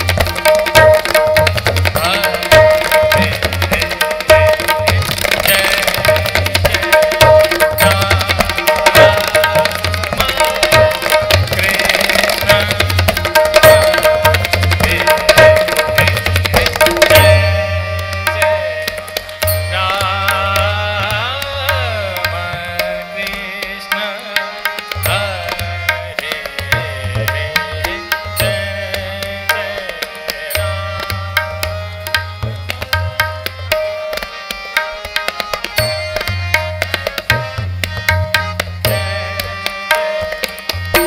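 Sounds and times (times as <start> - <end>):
harmonium melody: 0.0 - 41.0
tabla strokes: 0.0 - 41.0.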